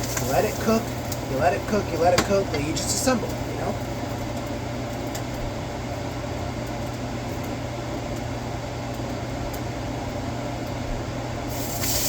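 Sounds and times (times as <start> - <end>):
stovetop fan whirring hum: 0.0 - 12.0.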